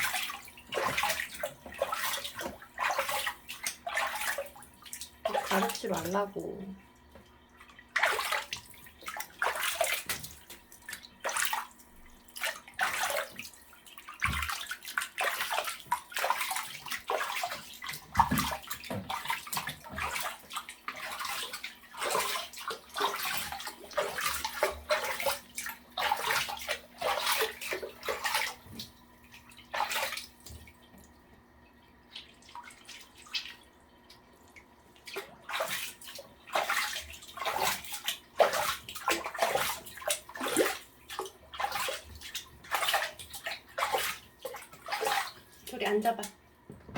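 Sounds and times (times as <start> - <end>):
water splashing in a tub: 0.0 - 46.9.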